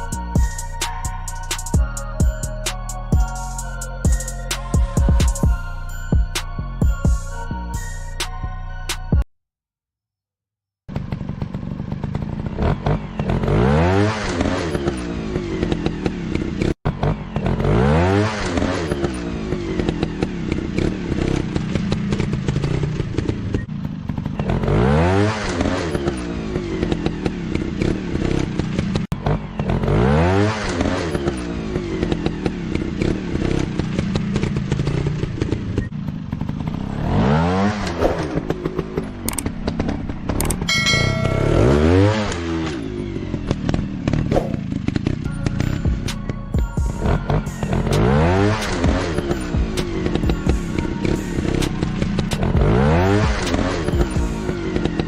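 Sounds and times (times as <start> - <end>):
motorcycle engines revving: 10.9 - 55.0.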